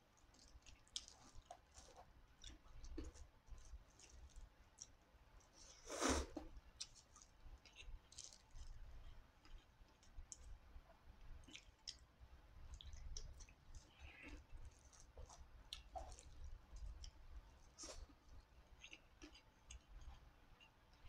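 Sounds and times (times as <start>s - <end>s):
person chewing food: 0.2s - 21.0s.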